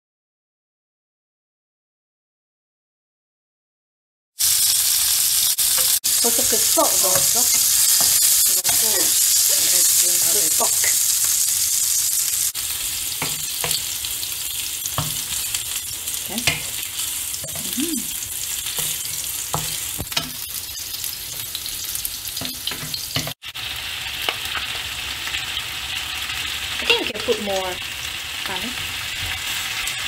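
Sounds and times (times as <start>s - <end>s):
food sizzling in frying pan: 4.4s - 30.0s.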